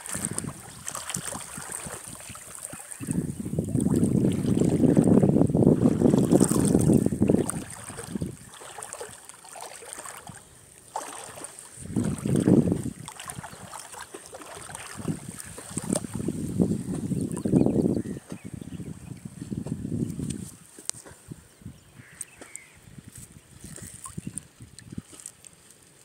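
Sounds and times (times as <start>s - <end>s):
wind buffeting a microphone: 0.0s - 9.1s, 11.3s - 25.2s.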